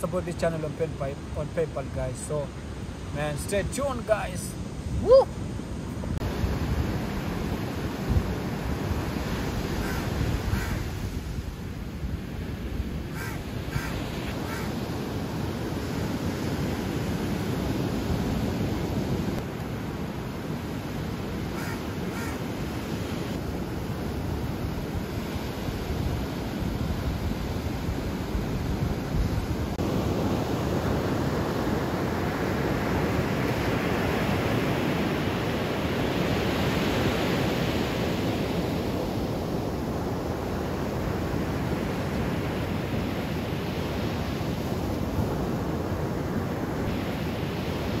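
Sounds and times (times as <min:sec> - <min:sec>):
ocean surf breaking on shore: 0:00.0 - 0:48.0.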